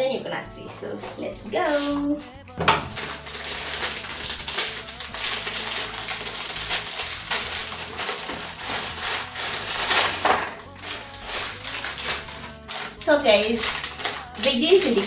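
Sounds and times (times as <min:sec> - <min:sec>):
plastic wrapper crinkling: 0:02.8 - 0:15.0.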